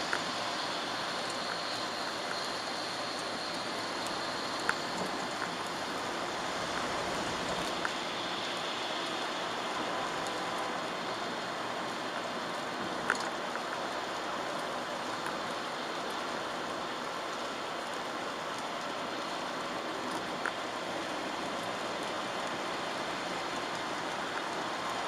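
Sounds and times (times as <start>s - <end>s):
rain and tyres on wet road: 0.0s - 25.0s.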